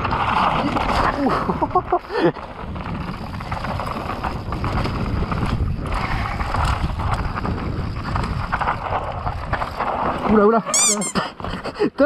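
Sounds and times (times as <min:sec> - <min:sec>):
wind rushing over microphone: 0:00.0 - 0:10.7
bike rattles and clicks: 0:00.0 - 0:12.0
bike tyres rumbling on dirt: 0:00.0 - 0:12.0.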